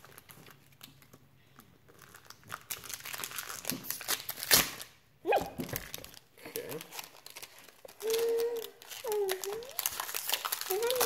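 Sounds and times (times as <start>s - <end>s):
foil wrapper crinkling: 0.0s - 5.0s, 5.6s - 11.0s.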